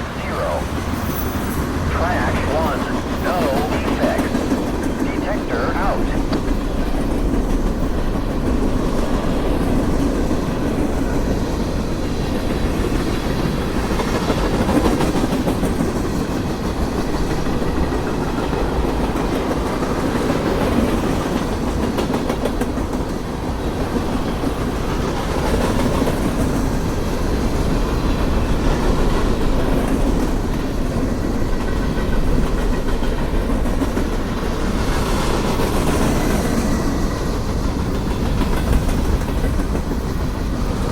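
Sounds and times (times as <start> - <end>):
train wheels rolling on rails: 6.2 - 40.9.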